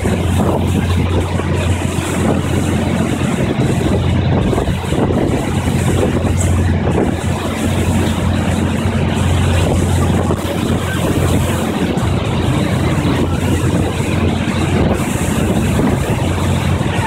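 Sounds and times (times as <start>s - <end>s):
boat engine running: 0.0s - 17.0s
churning wake water: 0.0s - 17.0s.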